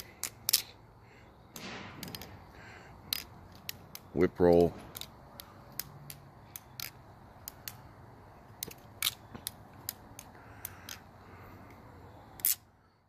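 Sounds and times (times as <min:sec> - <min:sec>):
butterfly knife handles clacking: 0:00.0 - 0:00.8, 0:01.6 - 0:11.8, 0:12.4 - 0:12.7.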